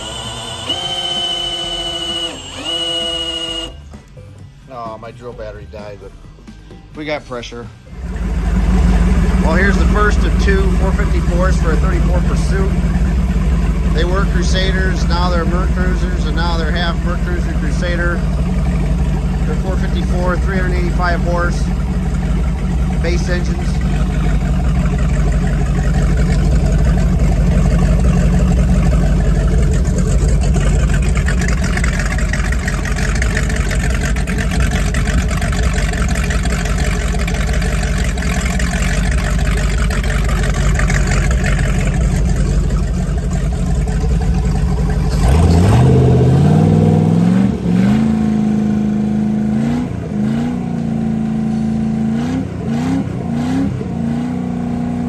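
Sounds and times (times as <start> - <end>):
boat engine running and revving: 0.0 - 4.1, 7.8 - 55.0.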